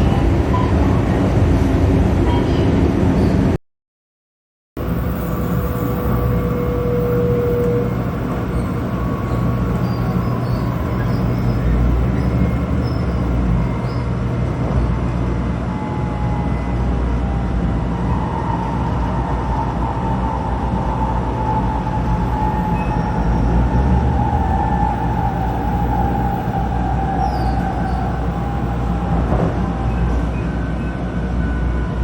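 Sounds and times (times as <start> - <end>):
train cabin low rumble: 0.0 - 3.6, 4.8 - 32.0.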